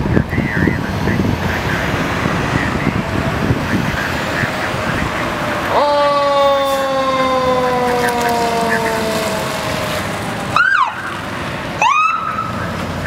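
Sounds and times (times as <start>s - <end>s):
emergency siren wailing: 0.0s - 13.0s
vehicle noise: 0.0s - 13.0s.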